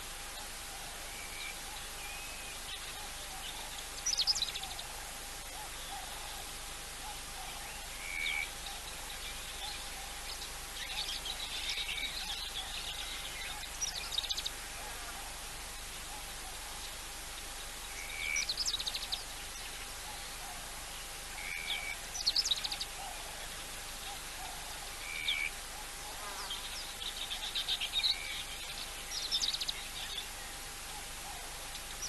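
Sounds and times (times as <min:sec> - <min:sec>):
faint steady hum: 0:00.0 - 0:32.0
steady outdoor hiss: 0:00.0 - 0:32.0
wild birds calling: 0:00.0 - 0:32.0.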